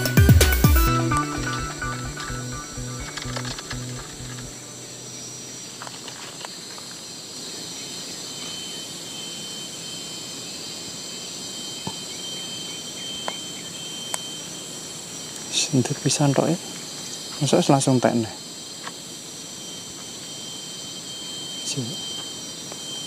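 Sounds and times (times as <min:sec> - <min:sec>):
insects droning: 0:00.0 - 0:23.0
thin high whine: 0:00.0 - 0:23.0.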